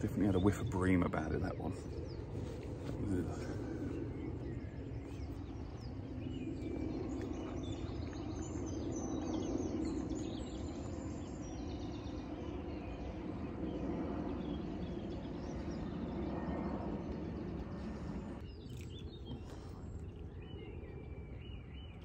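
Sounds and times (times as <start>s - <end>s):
small birds chirping and singing: 0.0s - 22.0s.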